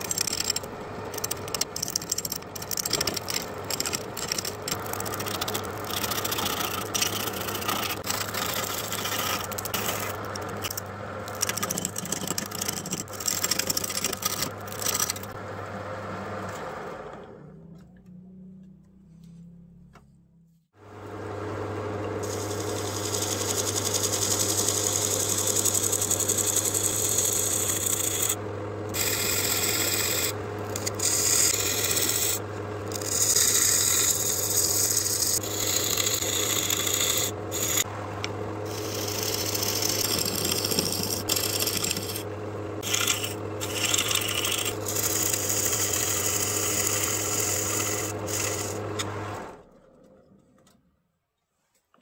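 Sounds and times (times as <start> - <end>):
turning tool scraping wood: 0.0 - 15.4, 22.2 - 37.9, 38.6 - 49.4
wood lathe motor hum: 0.0 - 18.4, 20.9 - 49.8.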